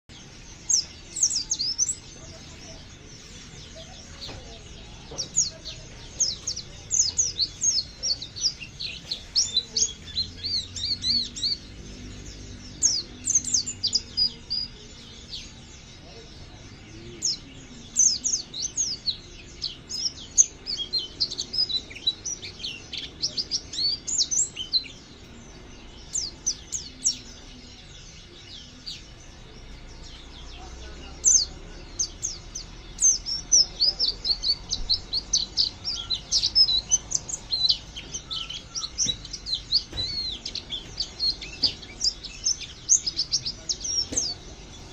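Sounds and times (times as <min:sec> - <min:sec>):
bird twittering high chirps: 0:00.0 - 0:44.9.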